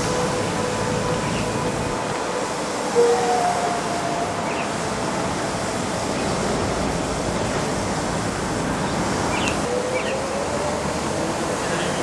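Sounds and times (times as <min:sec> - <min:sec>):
electric train rushing rumble: 0:00.0 - 0:12.0
faint train whine: 0:00.0 - 0:12.0.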